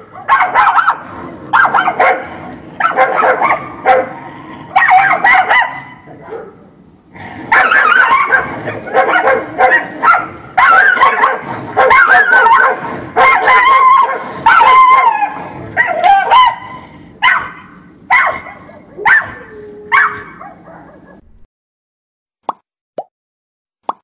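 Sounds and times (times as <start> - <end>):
dog barking angrily: 0.0 - 6.6, 7.2 - 21.2.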